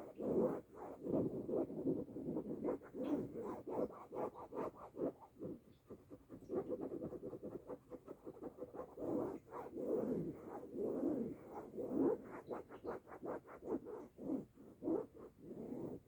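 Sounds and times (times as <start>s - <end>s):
close scratching: 0.0s - 16.0s.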